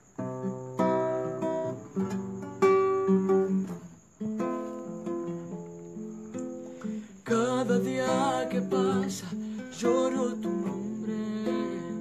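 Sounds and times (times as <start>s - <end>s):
acoustic guitar chords ringing: 0.0s - 12.0s.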